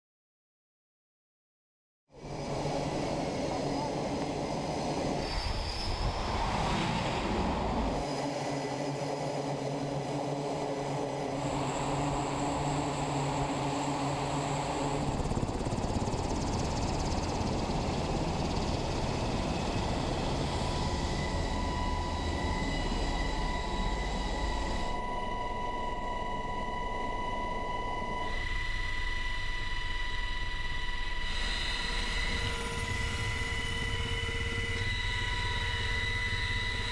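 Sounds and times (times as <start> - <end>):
helicopter engine and rotor noise: 2.2 - 6.7, 7.3 - 36.9
high turbine whine: 2.2 - 36.9.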